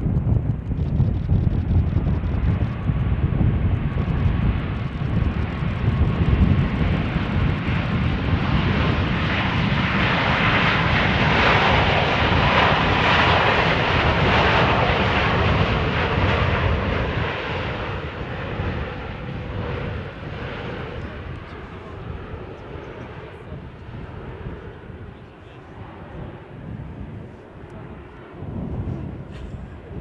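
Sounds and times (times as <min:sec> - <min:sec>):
low rumble: 0:00.0 - 0:25.2
jet engine noise: 0:00.0 - 0:30.0.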